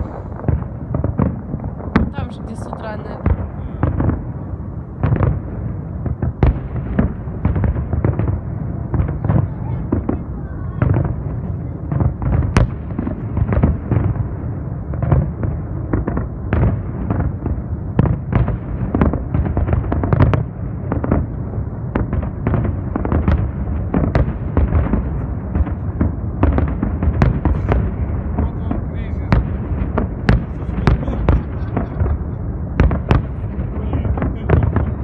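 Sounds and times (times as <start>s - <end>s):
distant continuous rumble: 0.0s - 35.0s.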